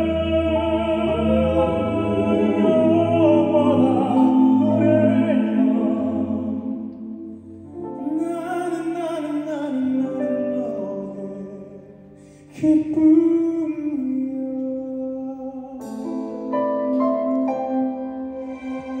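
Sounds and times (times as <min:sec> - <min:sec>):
keyboard: 0:00.0 - 0:19.0.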